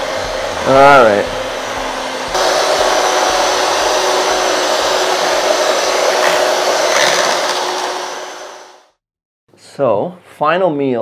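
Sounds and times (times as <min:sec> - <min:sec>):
electric hand mixer whining: 0:00.0 - 0:09.0.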